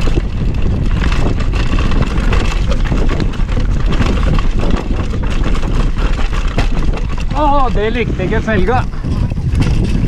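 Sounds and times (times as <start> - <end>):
wheel rim striking rock: 0.0 - 8.7
bike rattling and knocking: 0.0 - 10.0
wind buffeting microphone: 0.0 - 10.0.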